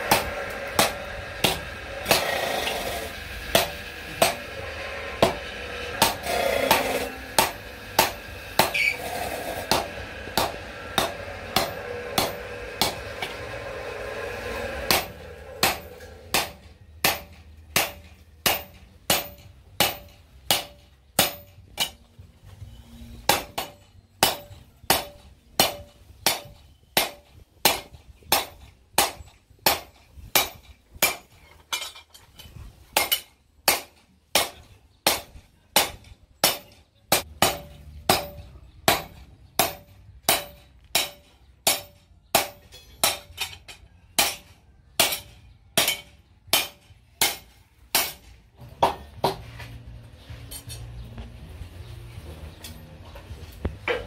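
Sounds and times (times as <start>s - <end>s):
hammer striking steel on anvil: 0.0s - 22.1s, 23.3s - 32.3s, 33.0s - 49.6s.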